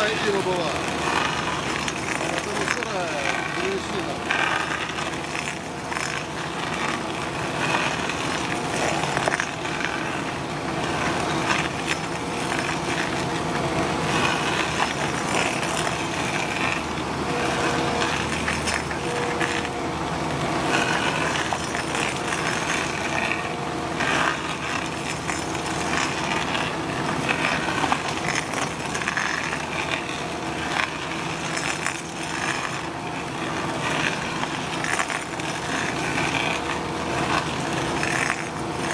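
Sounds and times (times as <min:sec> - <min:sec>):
machine engine and hydraulics hum: 0:00.0 - 0:38.9
stump grinder chewing wood: 0:00.0 - 0:38.9.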